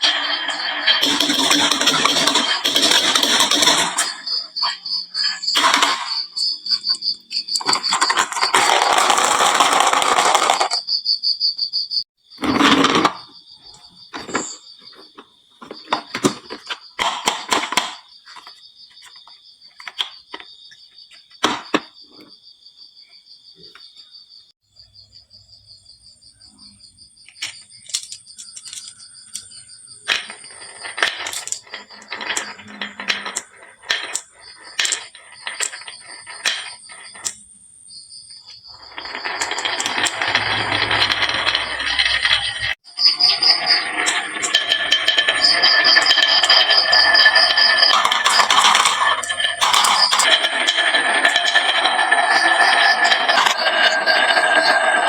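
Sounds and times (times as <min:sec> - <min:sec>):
marbles clicking down wooden run: 0:00.0 - 0:10.8, 0:12.4 - 0:19.2, 0:27.2 - 0:37.5, 0:38.4 - 0:55.0.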